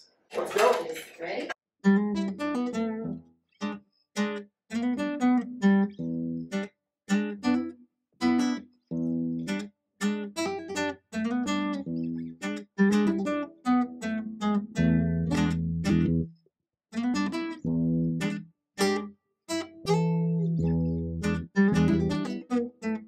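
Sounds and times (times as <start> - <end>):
acoustic guitar plucked notes: 1.9 - 16.3, 17.0 - 23.0.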